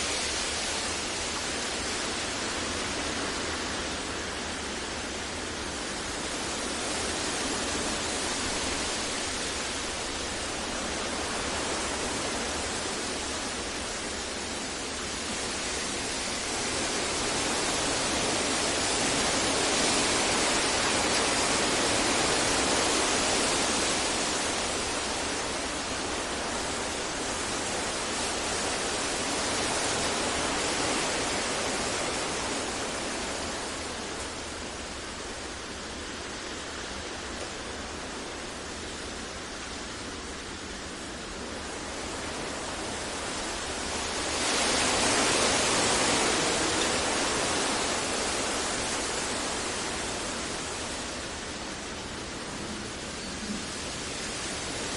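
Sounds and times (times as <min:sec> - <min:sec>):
steady synthetic hiss noise: 0:00.0 - 0:54.9.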